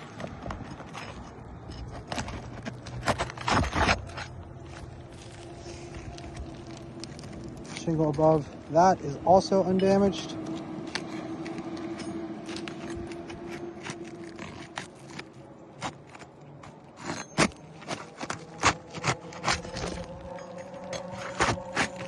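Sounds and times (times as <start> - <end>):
roofing tool scraping and clicking: 0.0 - 8.5, 10.4 - 22.0.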